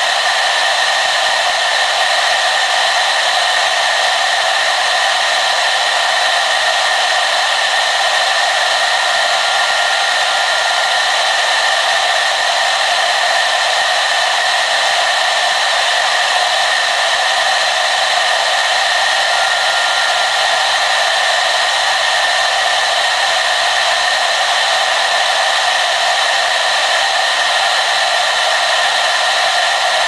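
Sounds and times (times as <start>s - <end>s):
hair dryer blowing: 0.0s - 30.0s.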